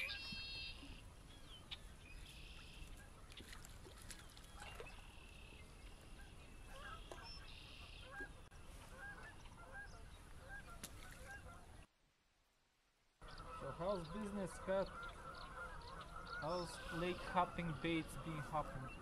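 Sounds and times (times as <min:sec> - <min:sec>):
birdsong: 0:00.0 - 0:11.9, 0:13.2 - 0:19.0
faint geese honking: 0:00.0 - 0:11.9, 0:13.2 - 0:19.0.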